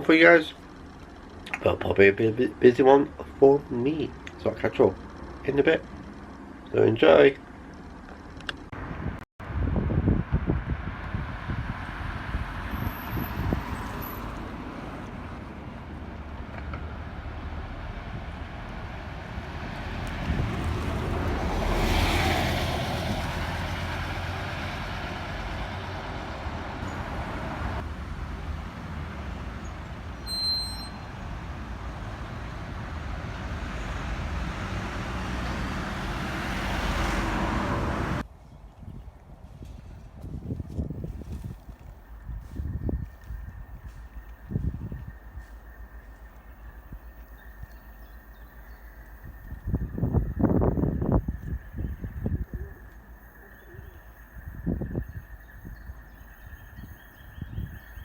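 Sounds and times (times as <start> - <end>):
vehicles passing close by: 0.0 - 38.4, 39.0 - 58.0.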